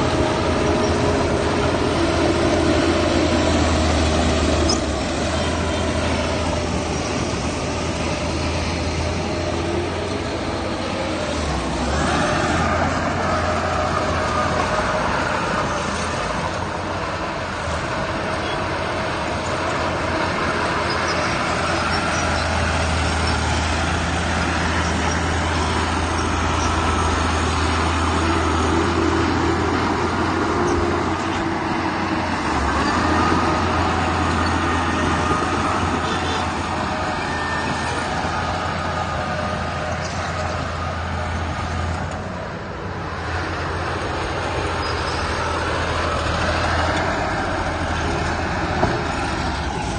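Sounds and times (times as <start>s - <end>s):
diesel machinery engine drone: 0.0s - 49.9s.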